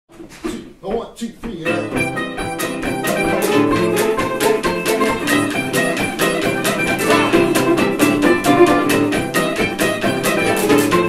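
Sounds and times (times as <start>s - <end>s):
jug band ragtime on plucked strings: 0.5s - 11.0s.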